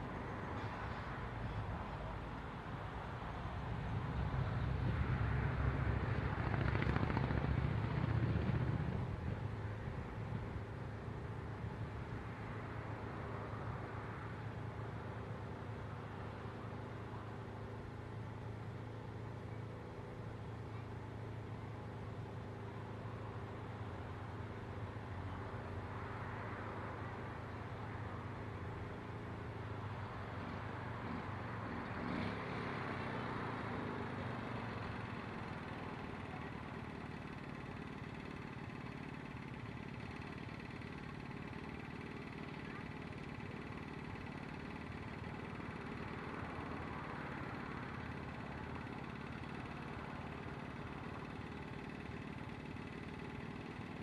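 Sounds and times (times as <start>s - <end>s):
vehicle engines idling: 0.0s - 54.0s.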